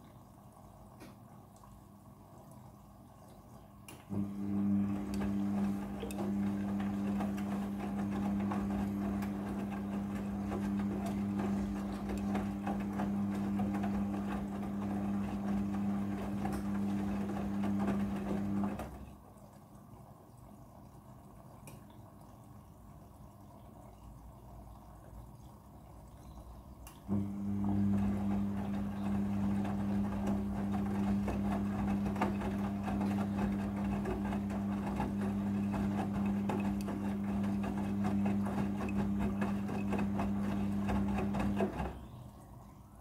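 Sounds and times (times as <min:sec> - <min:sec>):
washing machine motor humming: 0:00.0 - 0:19.4, 0:20.6 - 0:43.0
water sloshing: 0:00.0 - 0:42.6.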